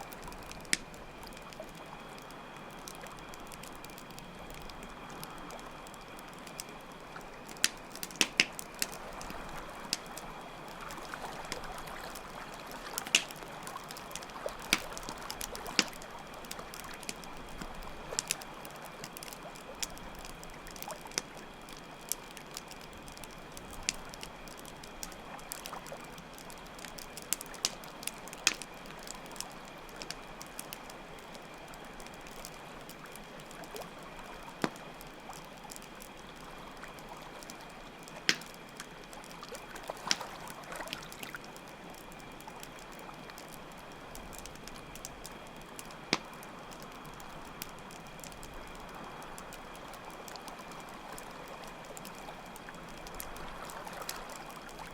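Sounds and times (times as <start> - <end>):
campfire crackling and popping: 0.0 - 54.9
trickle of running water: 0.0 - 54.9.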